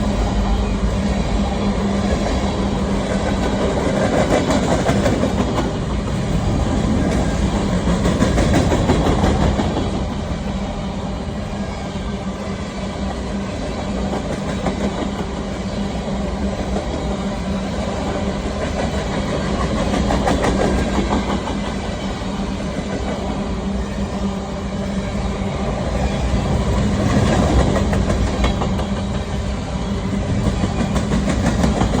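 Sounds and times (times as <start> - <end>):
train rumbling: 0.0 - 32.0
train wheels clicking on rail joints: 0.2 - 10.5, 13.0 - 24.3, 25.5 - 32.0.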